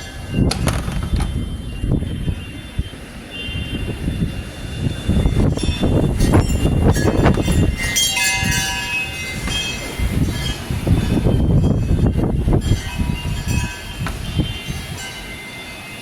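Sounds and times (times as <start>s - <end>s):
strong wind buffeting microphone: 0.0s - 15.4s.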